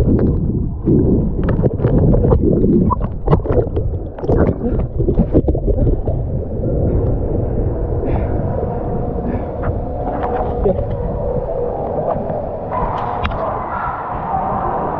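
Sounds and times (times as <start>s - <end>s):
muffled underwater rumbling and bubbling: 0.0s - 14.9s
water splashing and sloshing: 0.0s - 14.9s.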